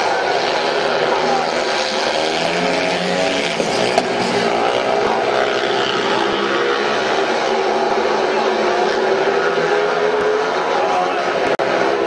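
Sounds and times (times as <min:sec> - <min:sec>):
motorcycle engines racing: 0:00.0 - 0:12.0.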